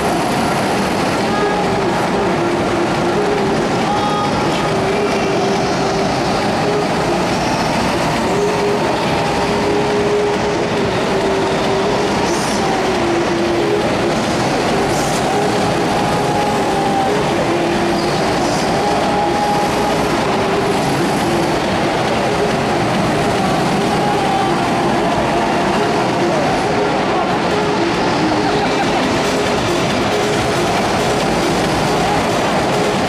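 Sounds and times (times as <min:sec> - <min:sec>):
go-kart engines racing: 0:00.0 - 0:33.0.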